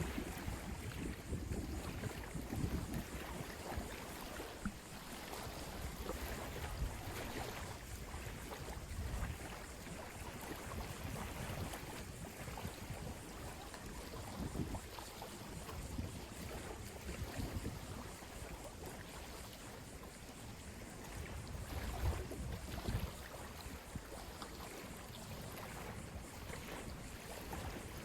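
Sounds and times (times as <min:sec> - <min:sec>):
wind buffeting microphone: 0:00.0 - 0:18.6, 0:20.4 - 0:28.0
ocean waves washing ashore: 0:00.0 - 0:28.0.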